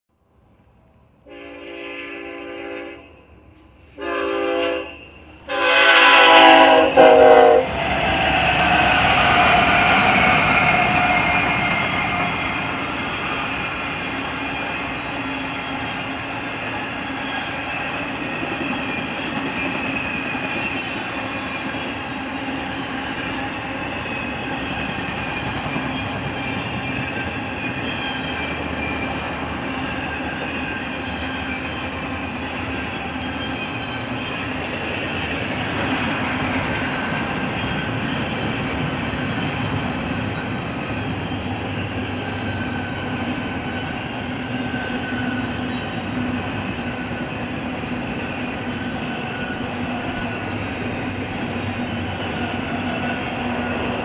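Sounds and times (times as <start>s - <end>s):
train wheels clattering on rail: 7.7s - 54.0s.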